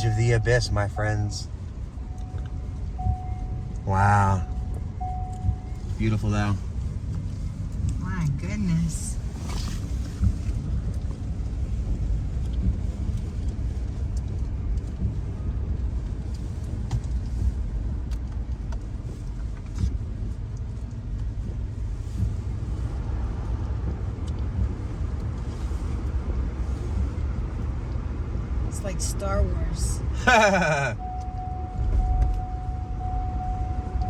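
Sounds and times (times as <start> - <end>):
road and engine rumble in cabin: 0.0 - 34.0.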